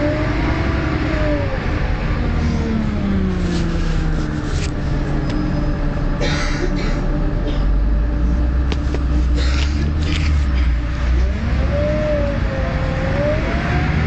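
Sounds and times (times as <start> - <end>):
bus diesel engine: 0.0 - 14.0.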